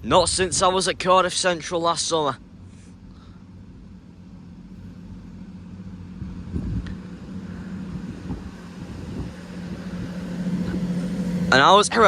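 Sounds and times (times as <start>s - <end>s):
diesel train engines droning: 0.0s - 12.0s.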